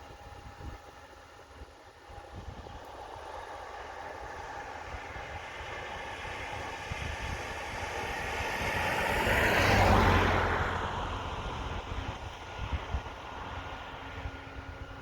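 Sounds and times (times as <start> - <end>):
diesel farm machine driving past: 3.0 - 15.0.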